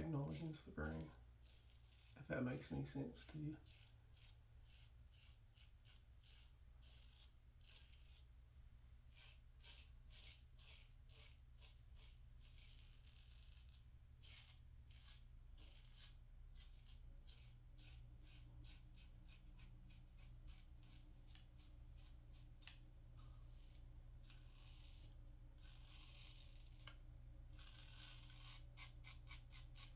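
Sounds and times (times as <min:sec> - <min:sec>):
razor scraping stubble: 0:00.0 - 0:08.4, 0:09.0 - 0:29.9.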